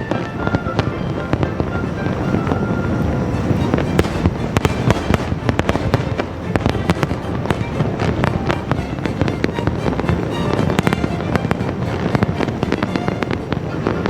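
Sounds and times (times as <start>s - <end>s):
fireworks bursting: 0.0s - 14.0s
low rumble: 0.0s - 14.0s
music: 0.0s - 14.0s.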